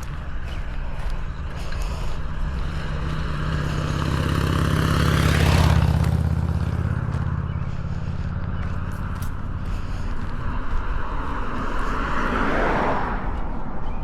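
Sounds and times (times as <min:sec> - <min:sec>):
car passing on road: 0:00.0 - 0:14.0.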